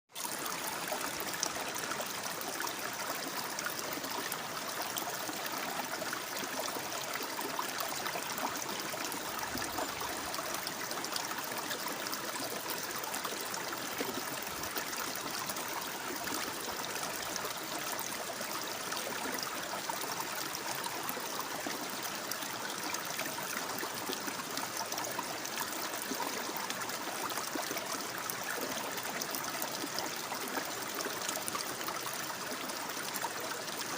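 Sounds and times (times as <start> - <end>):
water flowing and babbling: 0.1 - 33.9.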